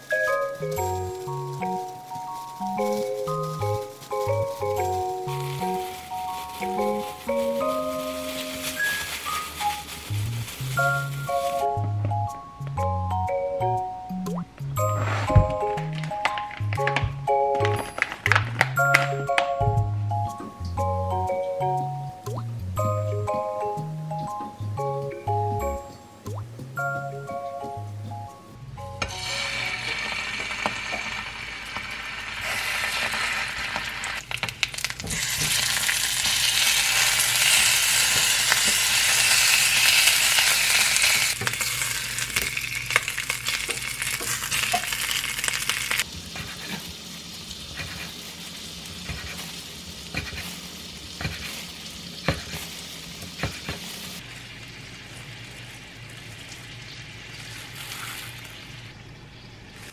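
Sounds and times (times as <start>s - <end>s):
sausages sizzling in oil: 0.0s - 12.7s, 13.9s - 25.6s, 29.0s - 59.9s.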